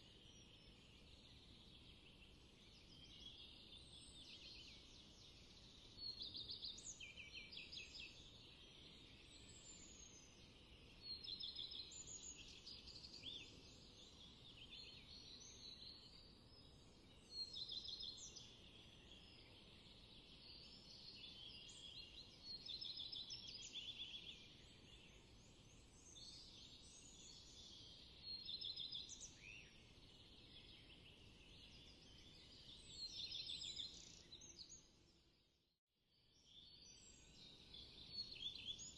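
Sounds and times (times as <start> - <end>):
songbirds singing: 0.0 - 35.3, 36.3 - 38.9.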